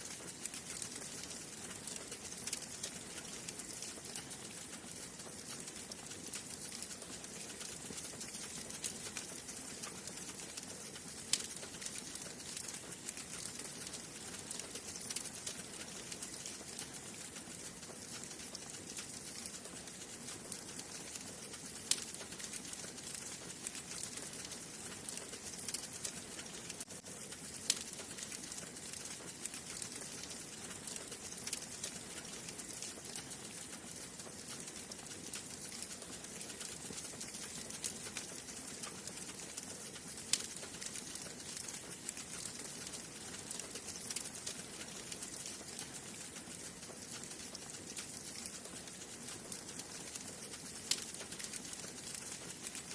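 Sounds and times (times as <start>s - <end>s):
wood fire crackling: 0.0s - 52.9s
fire popping: 0.2s - 52.9s.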